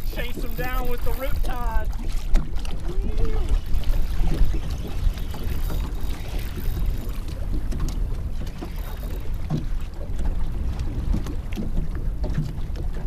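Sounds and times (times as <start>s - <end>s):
water lapping against boat hull: 0.0s - 13.0s
wind rumbling on microphone: 0.0s - 13.0s.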